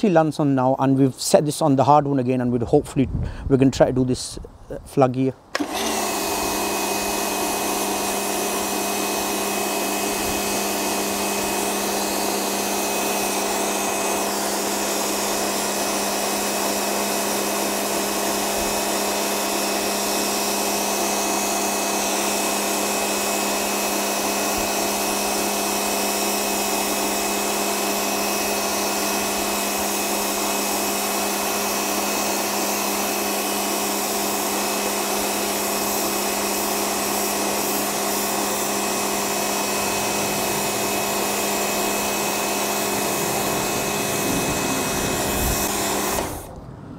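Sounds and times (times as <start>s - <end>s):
pressure washer motor humming: 5.5s - 46.6s
water jet hissing on concrete: 5.8s - 46.6s.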